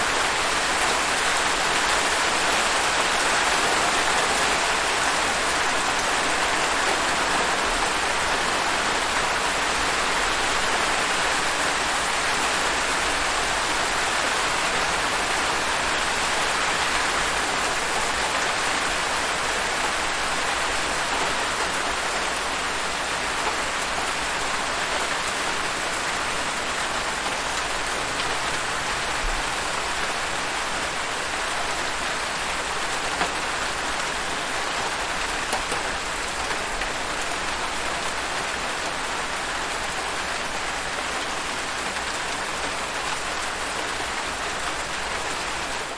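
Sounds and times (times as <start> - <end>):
steady rain hiss: 0.0 - 45.9.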